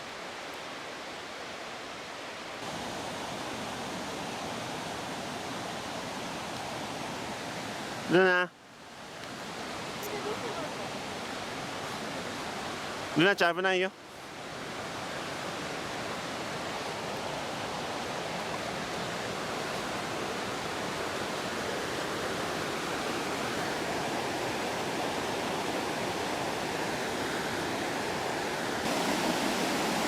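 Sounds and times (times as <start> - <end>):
waterfall roaring: 2.6 - 8.4, 9.4 - 30.0.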